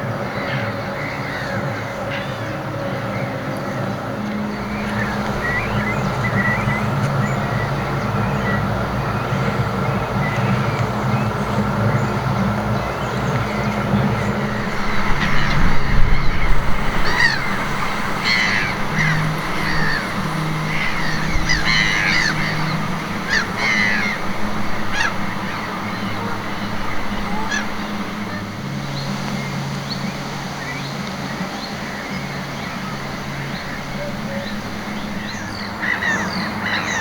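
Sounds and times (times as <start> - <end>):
wind noise: 0.0 - 37.0
bird harsh rasping calls: 0.4 - 30.0, 31.8 - 37.0.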